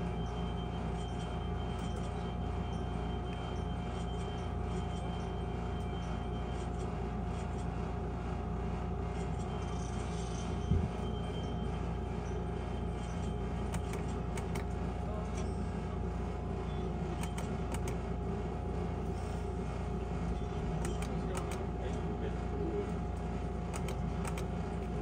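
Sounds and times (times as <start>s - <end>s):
game machine low hum: 0.0s - 25.0s.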